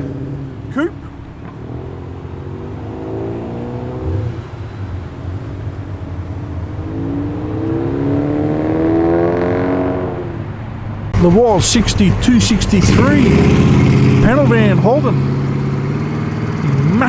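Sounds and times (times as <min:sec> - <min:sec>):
passing car engines accelerating: 0:00.0 - 0:17.0.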